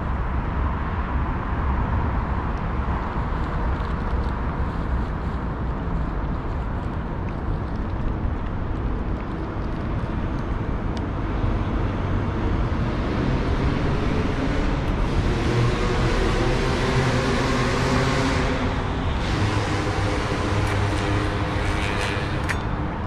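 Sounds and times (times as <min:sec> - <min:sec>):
road traffic noise: 0:00.0 - 0:23.0
vehicle engine low drone: 0:00.0 - 0:23.0.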